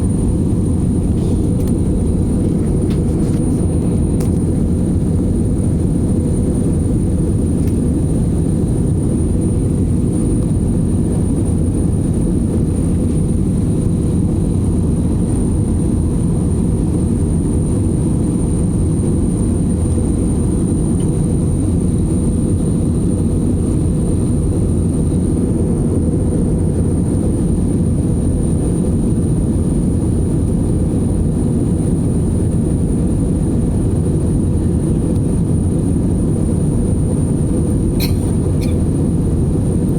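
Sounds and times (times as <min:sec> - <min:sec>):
engine and airflow rush: 0:00.0 - 0:39.9.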